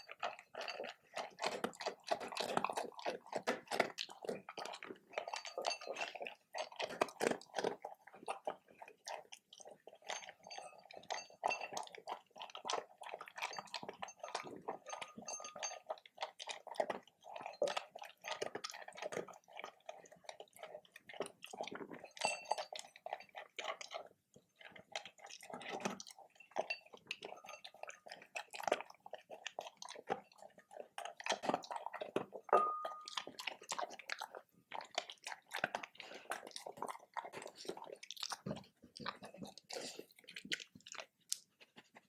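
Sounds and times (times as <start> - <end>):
dog chewing and crunching food: 0.0 - 42.0.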